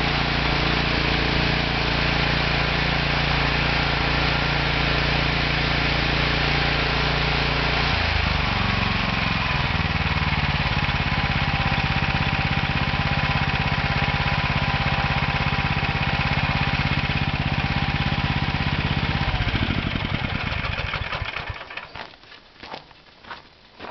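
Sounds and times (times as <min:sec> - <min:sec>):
petrol engine running: 0:00.0 - 0:21.9.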